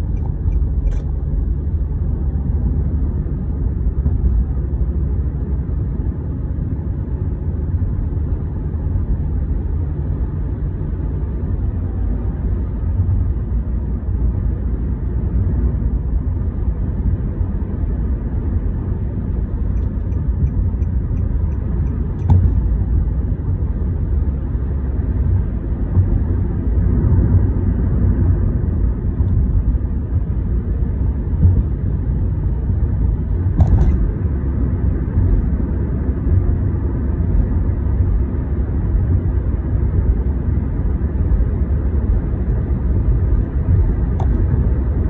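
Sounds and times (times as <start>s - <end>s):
car engine and tyre noise: 0.0s - 45.0s.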